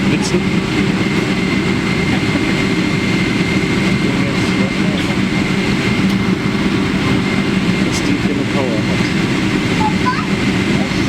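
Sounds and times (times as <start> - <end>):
jet engines in aircraft cabin: 0.0 - 11.0.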